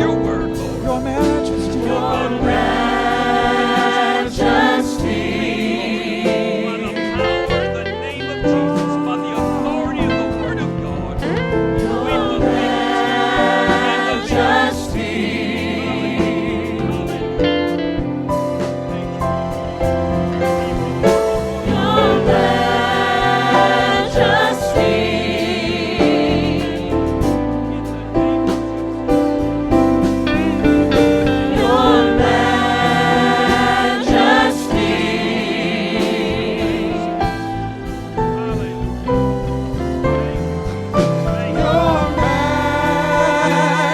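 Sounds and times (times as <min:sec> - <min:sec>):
choir singing gospel: 0:00.0 - 0:43.9
instrumental accompaniment: 0:00.0 - 0:43.9
sliding guitar: 0:00.0 - 0:43.9.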